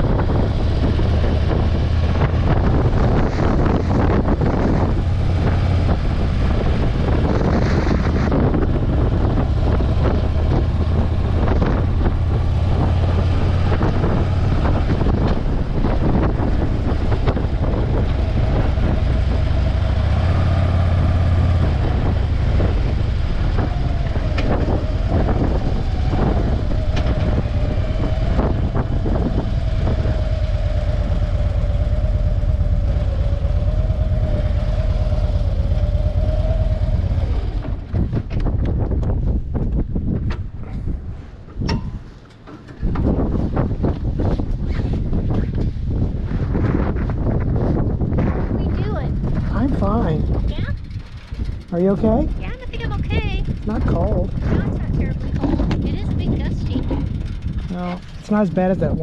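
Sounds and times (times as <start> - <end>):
motorcycle engine rumble: 0.0 - 59.0.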